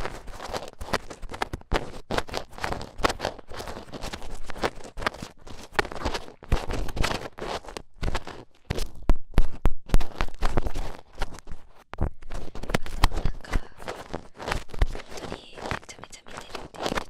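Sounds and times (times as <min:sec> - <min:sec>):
ear pick scraping and tapping microphone: 0:00.0 - 0:17.0.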